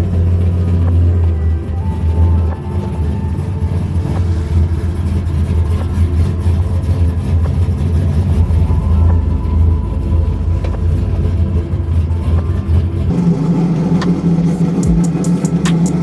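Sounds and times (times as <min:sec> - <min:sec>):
engine idling with low rumble: 0:00.0 - 0:16.0.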